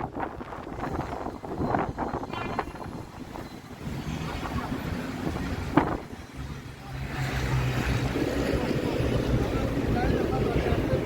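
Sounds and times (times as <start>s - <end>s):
street traffic: 0.0s - 11.0s
wind buffeting microphone: 0.0s - 11.0s.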